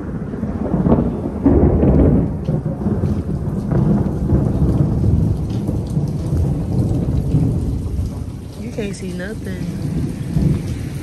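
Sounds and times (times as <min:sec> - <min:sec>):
heavy rain pouring: 0:00.0 - 0:11.0
thunder rumbling: 0:00.0 - 0:11.0.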